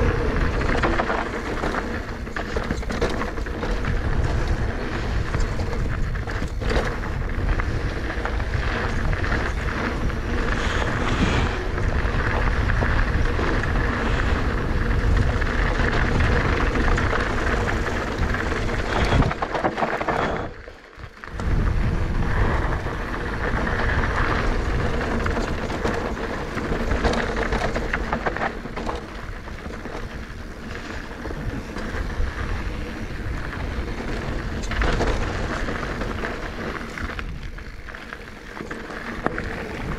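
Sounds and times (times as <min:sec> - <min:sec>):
bike rattling and knocking: 0:00.0 - 0:39.9
tyres rolling on dirt: 0:00.0 - 0:39.9
wind buffeting microphone: 0:00.0 - 0:39.9.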